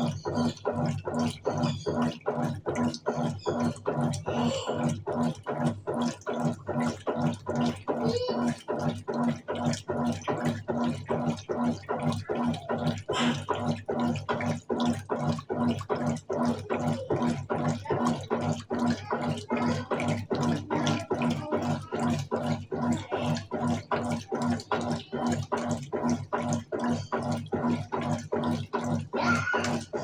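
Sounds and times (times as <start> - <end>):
washing machine agitator churning: 0.0 - 30.0.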